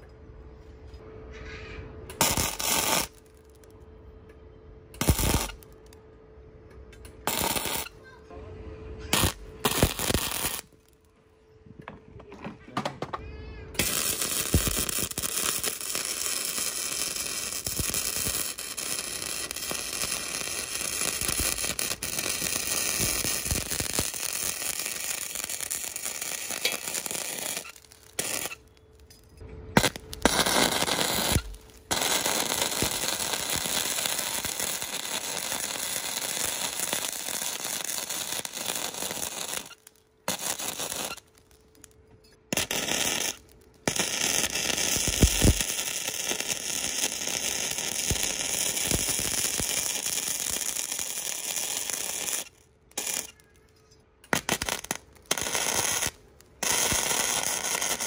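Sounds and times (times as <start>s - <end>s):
crackling hissing metalworking: 1.8s - 3.8s, 4.9s - 6.0s, 7.0s - 8.2s, 9.0s - 11.1s, 13.6s - 58.0s.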